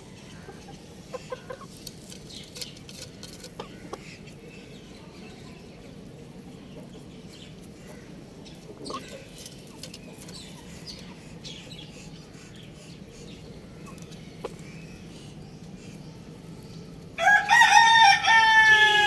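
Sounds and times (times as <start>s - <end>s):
young chickens peeping: 0.0s - 19.0s.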